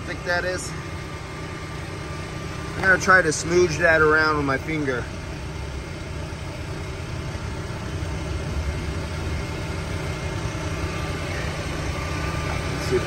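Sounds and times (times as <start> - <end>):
vacuum pump droning: 0.0 - 13.0.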